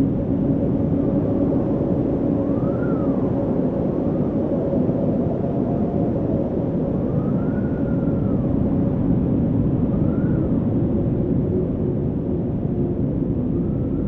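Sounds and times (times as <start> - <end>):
strong wind blowing: 0.0 - 14.0.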